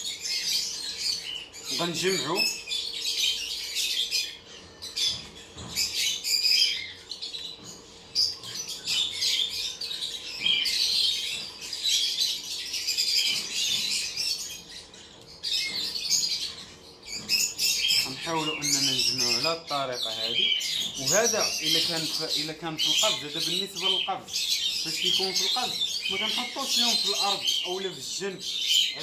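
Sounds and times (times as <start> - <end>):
lovebirds chirping and squawking: 0.0 - 29.0.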